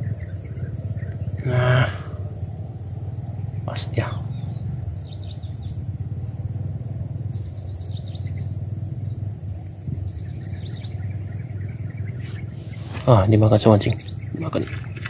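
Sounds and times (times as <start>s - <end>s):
low rumble: 0.0s - 12.8s
small birds chirping: 0.0s - 15.0s.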